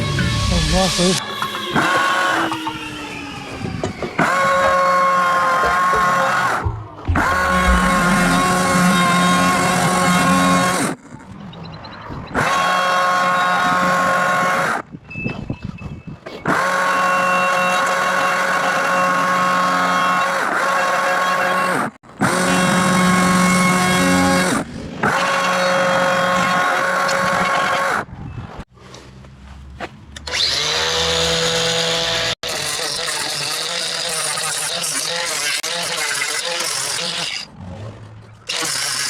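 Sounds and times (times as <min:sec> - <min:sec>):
chainsaw carving wood: 0:00.0 - 0:11.0, 0:12.4 - 0:14.8, 0:16.4 - 0:28.1, 0:30.2 - 0:37.6, 0:38.4 - 0:39.0.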